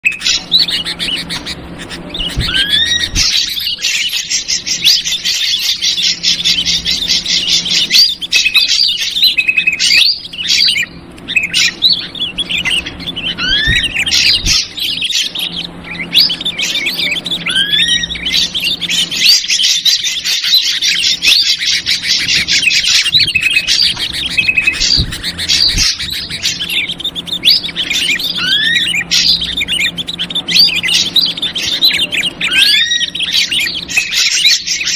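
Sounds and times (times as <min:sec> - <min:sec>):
bulbul chattering: 0:00.0 - 0:34.9
drongo whistled calls: 0:00.0 - 0:34.9.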